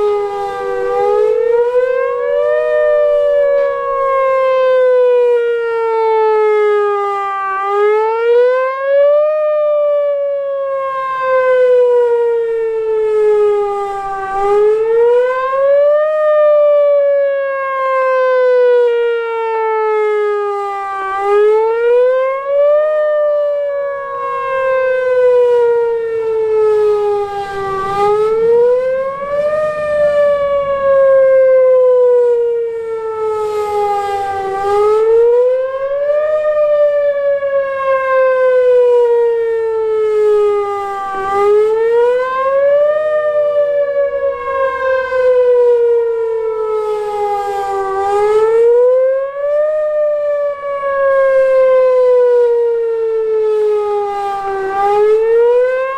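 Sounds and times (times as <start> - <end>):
outdoor warning siren wailing: 0.0 - 55.9.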